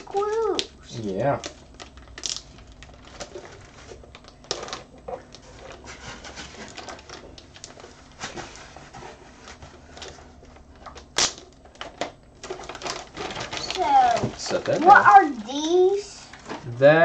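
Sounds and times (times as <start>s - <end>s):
packaging rustling: 0.0s - 17.0s.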